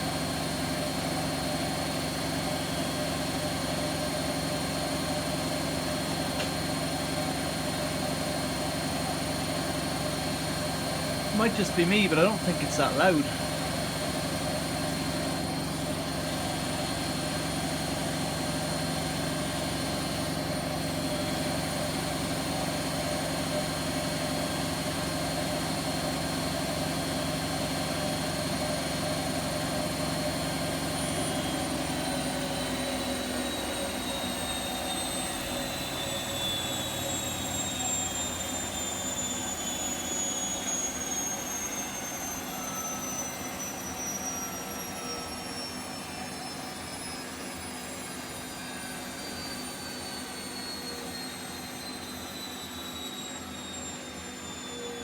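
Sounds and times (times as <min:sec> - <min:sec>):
washing machine spin whine: 0:00.0 - 0:55.0.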